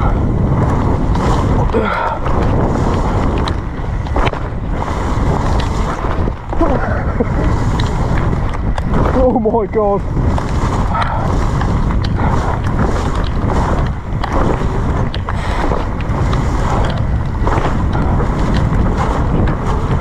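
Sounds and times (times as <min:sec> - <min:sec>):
bike knocks and rattles: 0:00.0 - 0:20.0
tyres rushing through wet trail: 0:00.0 - 0:20.0
wind buffeting microphone: 0:00.0 - 0:20.0.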